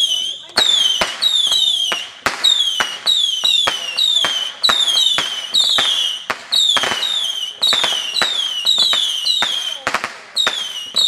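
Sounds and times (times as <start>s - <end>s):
whistling fireworks: 0.0s - 11.0s.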